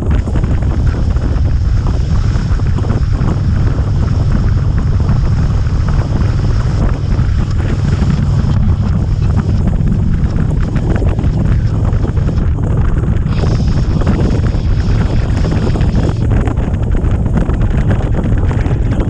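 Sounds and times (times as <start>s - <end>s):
wind rush over microphone: 0.0s - 19.0s.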